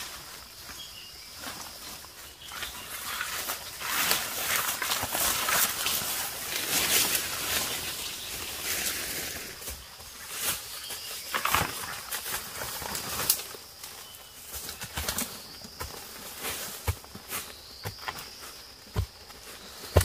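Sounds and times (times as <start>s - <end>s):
footsteps on dry leaves: 0.0s - 20.0s
undergrowth rustling: 0.0s - 20.0s.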